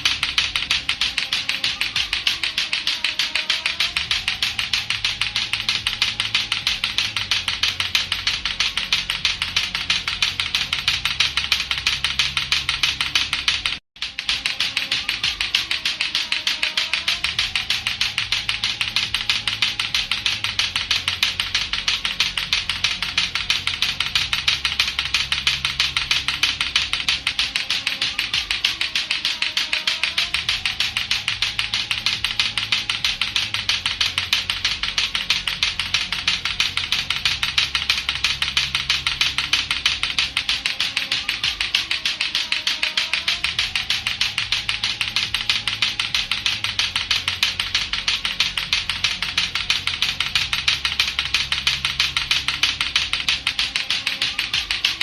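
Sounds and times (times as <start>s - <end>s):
clacker toy balls clacking: 0.0s - 55.0s
low looped backing music: 0.0s - 55.0s.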